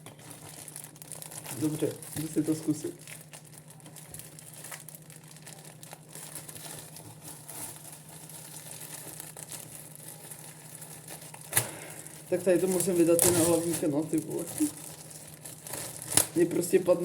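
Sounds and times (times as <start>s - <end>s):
t-shirt rustling and crinkling: 0.0s - 17.0s.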